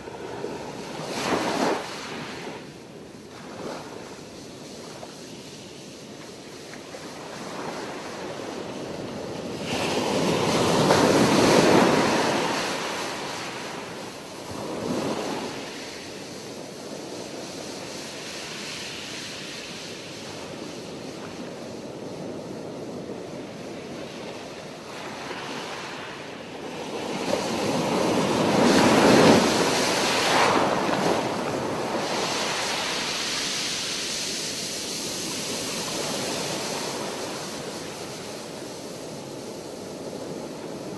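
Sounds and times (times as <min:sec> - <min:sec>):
big waves breaking: 0:00.0 - 0:40.9
waves washing ashore: 0:00.0 - 0:40.9.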